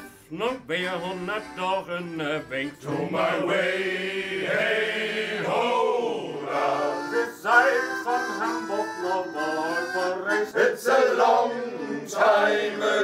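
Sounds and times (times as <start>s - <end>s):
men singing a sea shanty: 0.4s - 13.0s.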